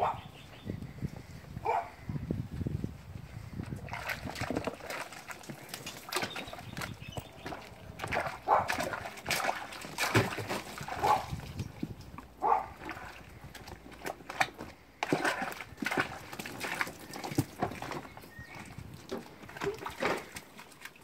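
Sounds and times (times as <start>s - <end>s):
water splashing in a tub: 3.6s - 21.0s.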